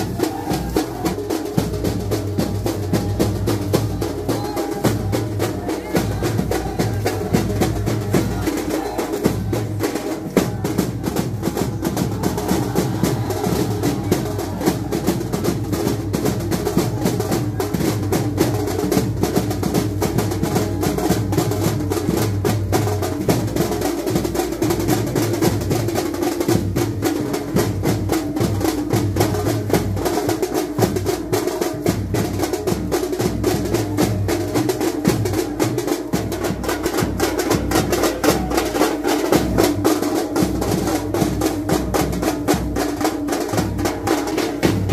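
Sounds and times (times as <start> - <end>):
drums beaten fast: 0.0 - 44.9.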